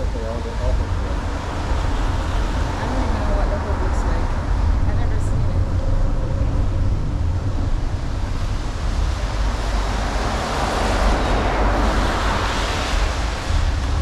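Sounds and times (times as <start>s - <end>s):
highway traffic rumble: 0.0s - 14.0s
vehicle passing by: 0.0s - 14.0s.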